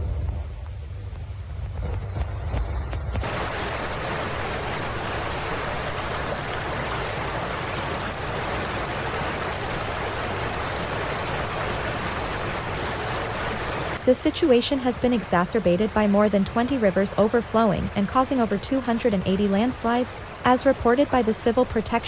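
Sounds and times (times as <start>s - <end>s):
helicopter rotor rumble: 0.0s - 22.0s
steady rushing noise: 0.0s - 22.0s.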